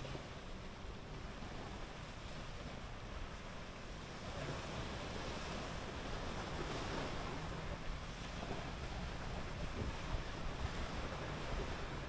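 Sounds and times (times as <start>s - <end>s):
waves washing onto beach: 0.0s - 12.0s
wind buffeting microphone: 0.0s - 12.0s.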